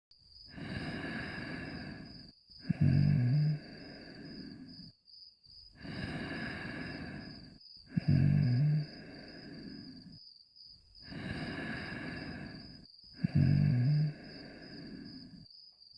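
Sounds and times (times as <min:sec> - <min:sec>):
person snoring: 0:00.5 - 0:04.9, 0:05.8 - 0:10.2, 0:11.0 - 0:15.5.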